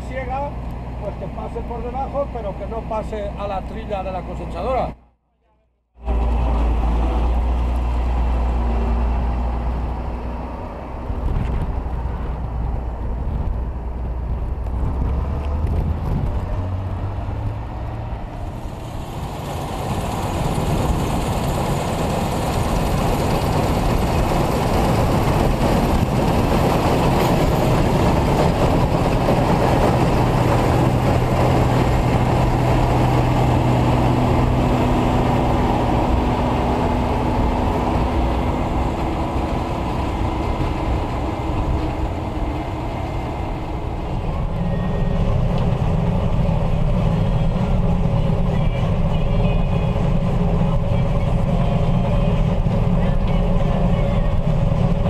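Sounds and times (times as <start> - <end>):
combine harvester running: 6.0 - 55.0.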